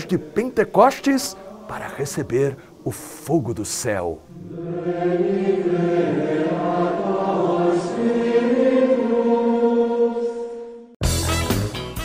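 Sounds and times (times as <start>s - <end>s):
wordless choir singing: 0.0s - 11.0s.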